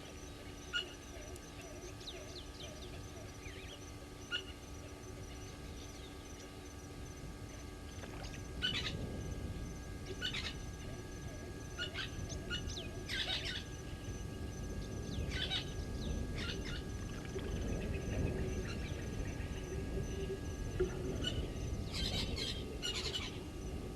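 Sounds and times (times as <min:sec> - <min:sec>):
birds chirping and whistling: 0:00.0 - 0:06.9, 0:07.5 - 0:09.1, 0:10.0 - 0:20.4, 0:21.0 - 0:23.7
low background rumble: 0:00.0 - 0:23.9.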